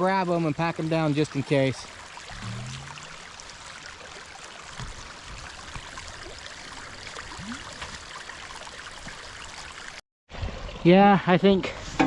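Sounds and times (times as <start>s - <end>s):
water trickling in ditch: 0.0s - 11.3s.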